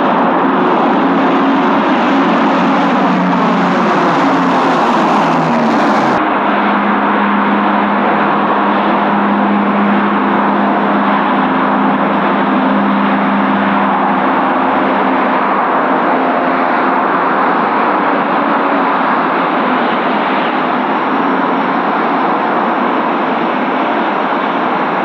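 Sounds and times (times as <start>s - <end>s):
low propeller hum: 0.0s - 25.0s
turboprop engines droning: 0.0s - 25.0s.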